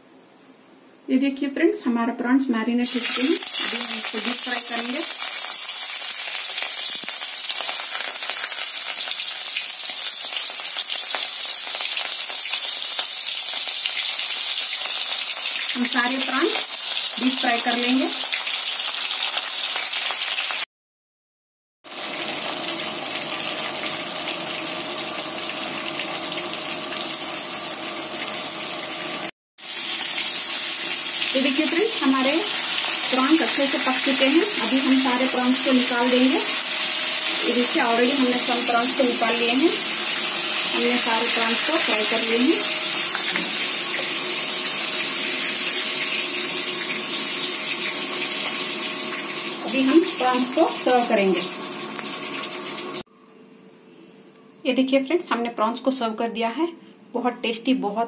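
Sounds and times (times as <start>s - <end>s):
prawns sizzling in hot oil: 2.8s - 20.7s, 21.9s - 53.1s.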